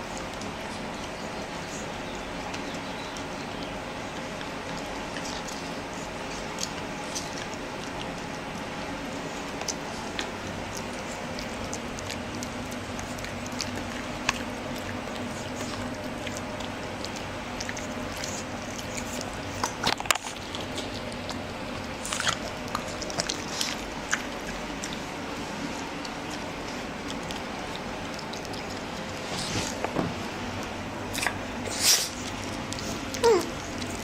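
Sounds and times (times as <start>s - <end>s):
dogs scuffling and mouthing: 0.0s - 34.0s
low steady hum: 0.0s - 34.0s.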